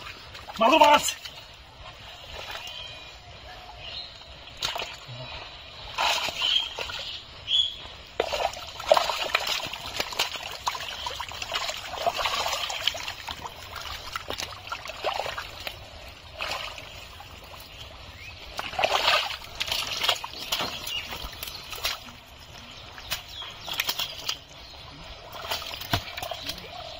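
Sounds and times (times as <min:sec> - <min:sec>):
squelching and splashing through mud: 0:00.0 - 0:26.9.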